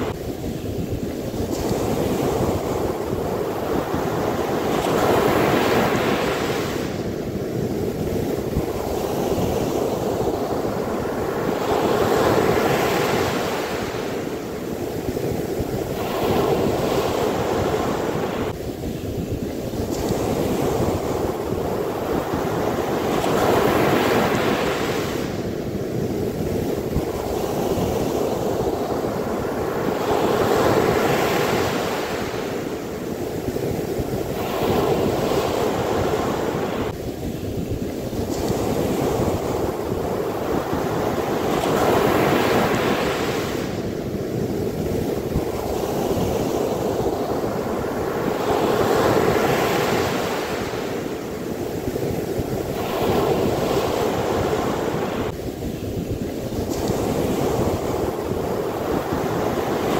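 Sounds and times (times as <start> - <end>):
ocean waves breaking on sand: 0.0 - 59.9.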